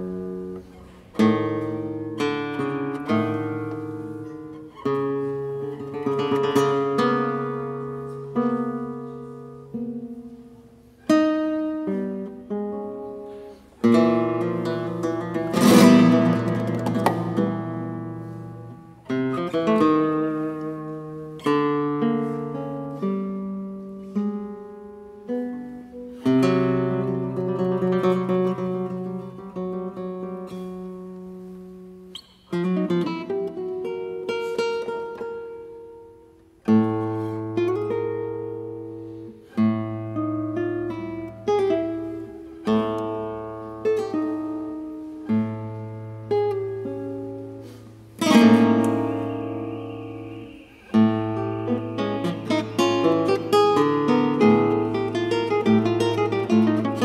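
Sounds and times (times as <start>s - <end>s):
classical guitar chords: 0.0s - 57.0s.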